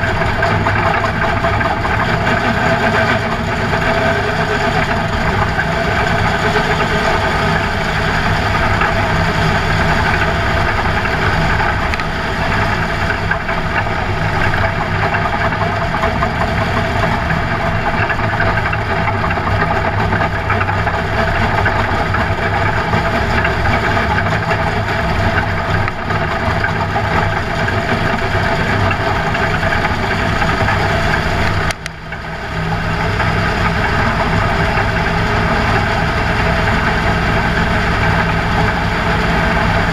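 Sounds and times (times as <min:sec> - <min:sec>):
race car engine running hard: 0:00.0 - 0:39.9
road and wind noise: 0:00.0 - 0:39.9.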